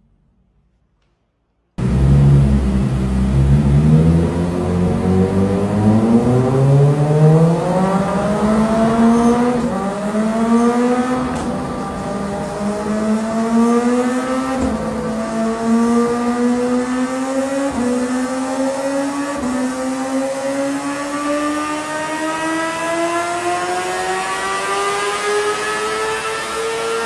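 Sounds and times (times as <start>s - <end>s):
motorcycle engine accelerating: 1.8s - 27.0s.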